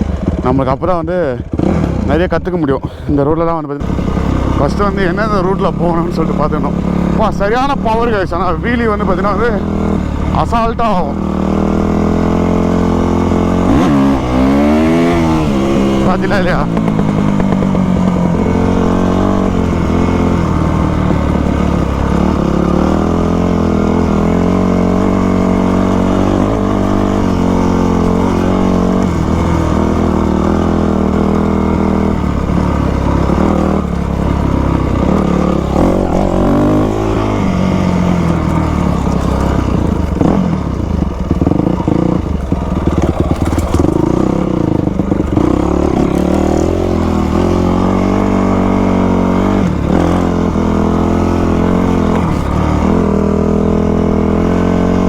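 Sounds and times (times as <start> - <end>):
dirt bike engine revving: 0.0 - 3.1, 3.8 - 55.0.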